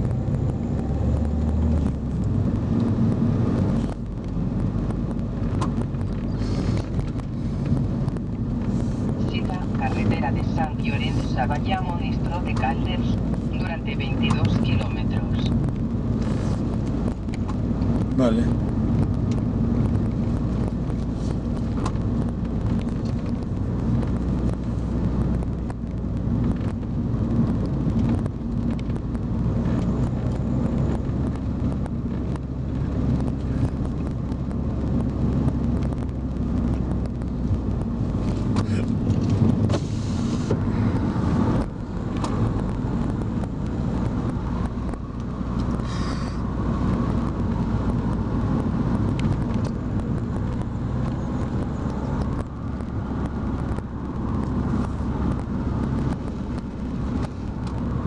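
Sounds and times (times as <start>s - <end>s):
tyre and wind rush: 0.0s - 13.7s, 15.2s - 58.0s
car engine hum: 0.0s - 58.0s.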